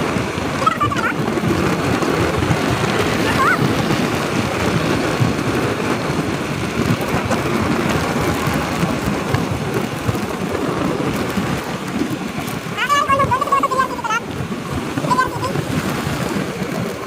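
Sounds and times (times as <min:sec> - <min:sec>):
motorcycle engine and road noise: 0:00.0 - 0:17.0
wind buffeting microphone: 0:00.0 - 0:17.0.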